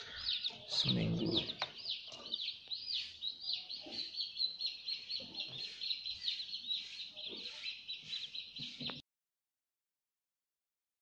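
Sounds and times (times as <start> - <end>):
chicks peeping: 0.0 - 9.0.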